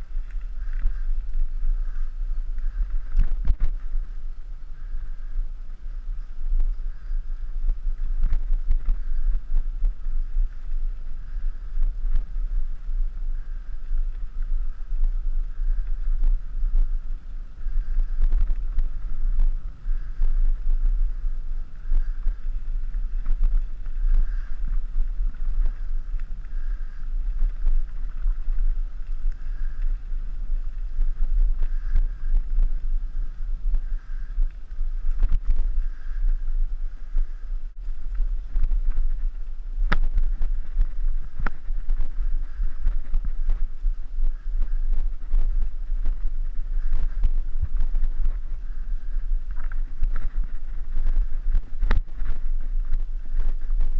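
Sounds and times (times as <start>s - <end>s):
wind rumble on microphone: 0.0s - 53.9s.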